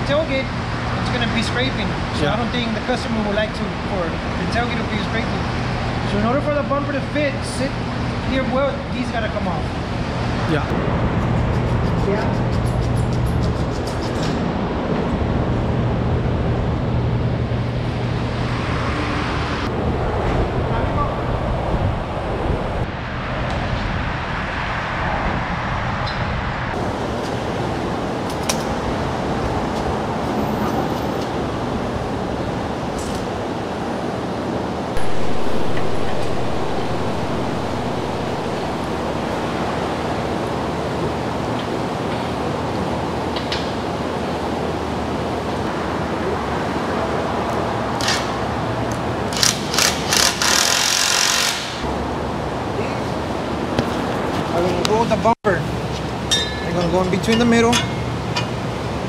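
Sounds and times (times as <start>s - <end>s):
rushing workshop background noise: 0.0s - 24.9s, 25.6s - 59.0s.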